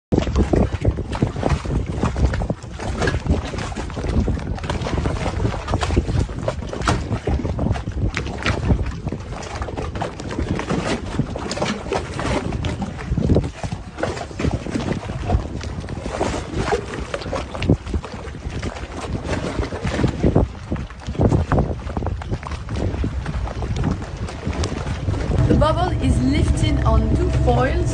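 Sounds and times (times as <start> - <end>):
rushing splashing water: 0.1 - 27.9
wind buffeting microphone: 0.1 - 27.9.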